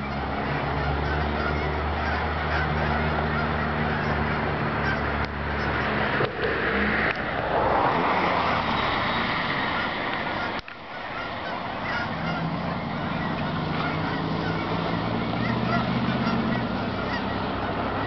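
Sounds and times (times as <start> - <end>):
geese honking: 0.0 - 6.5, 8.3 - 18.0.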